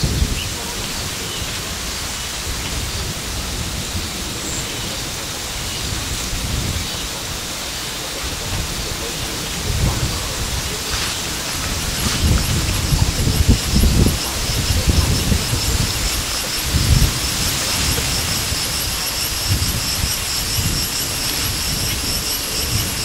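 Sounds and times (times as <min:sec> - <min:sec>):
steady rushing outdoor noise: 0:00.0 - 0:23.0.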